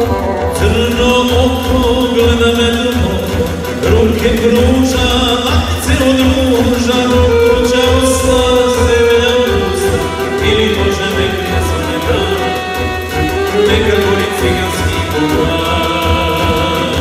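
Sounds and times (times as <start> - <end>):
man singing folk song: 0.4 - 17.0.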